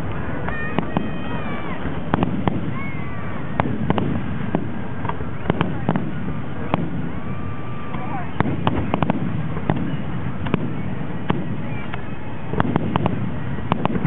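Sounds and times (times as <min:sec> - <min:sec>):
crowd chatter: 0:00.0 - 0:14.0
fireworks bangs and pops: 0:00.0 - 0:14.0
fireworks whistling: 0:00.0 - 0:14.0.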